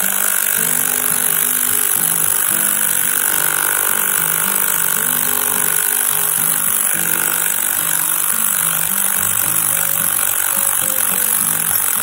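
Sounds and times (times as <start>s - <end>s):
background music: 0.0s - 12.0s
impact wrench running: 0.0s - 12.0s.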